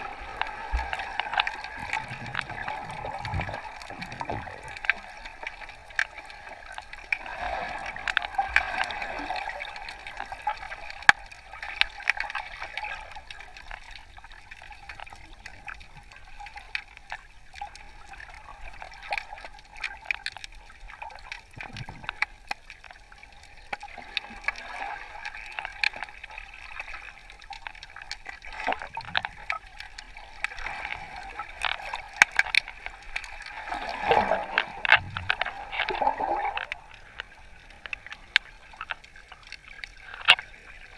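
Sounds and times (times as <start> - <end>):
bubbling underwater wash: 0.0 - 16.7, 17.3 - 40.9
low water swishes: 0.0 - 20.0, 22.9 - 40.9
sharp underwater clicks: 0.0 - 40.9.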